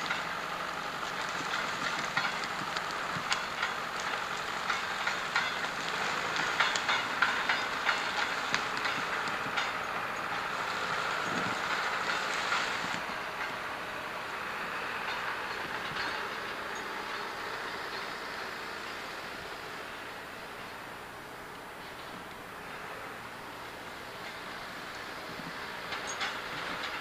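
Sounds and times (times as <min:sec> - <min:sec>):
crawler loader engine running: 0:00.0 - 0:27.0
steel tracks clanking: 0:00.0 - 0:27.0.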